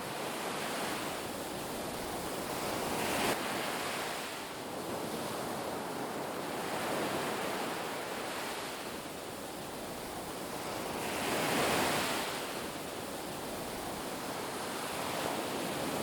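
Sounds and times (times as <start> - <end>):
ocean waves breaking on beach: 0.0 - 16.0.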